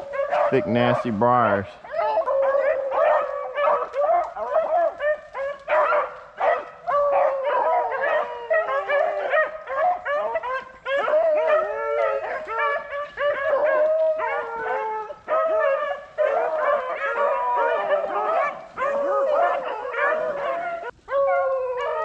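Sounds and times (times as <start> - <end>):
dogs baying: 0.0 - 22.0.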